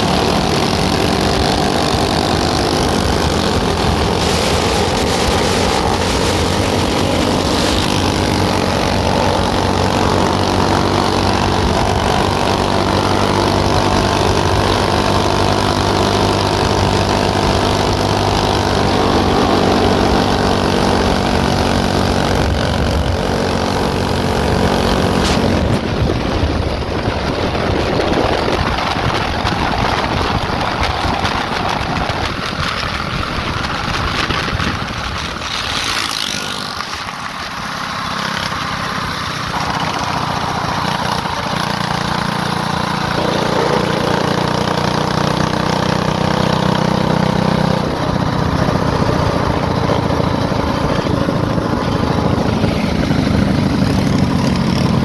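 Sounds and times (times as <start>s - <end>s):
mini bike engine running: 0.0s - 55.0s.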